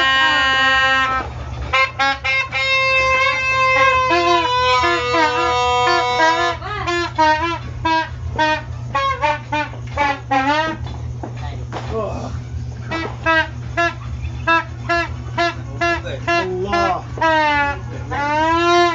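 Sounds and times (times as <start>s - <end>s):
horn blowing: 0.0s - 11.0s, 12.5s - 18.9s.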